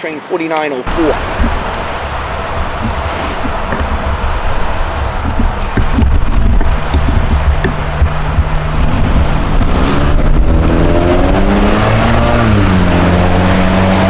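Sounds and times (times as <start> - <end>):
low steady rumble: 0.9 - 13.9
vehicle engine driving past: 0.9 - 14.0.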